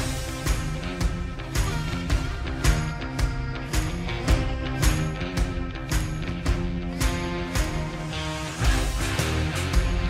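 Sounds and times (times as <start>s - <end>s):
drum beat: 0.0s - 10.0s.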